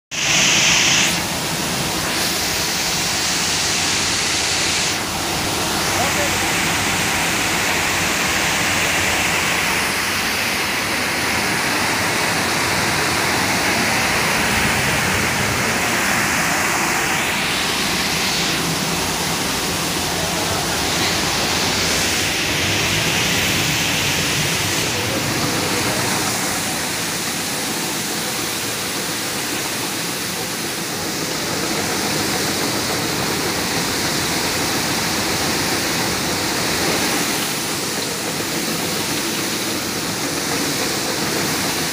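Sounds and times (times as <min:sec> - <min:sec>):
machinery hissing: 0:00.1 - 0:41.9.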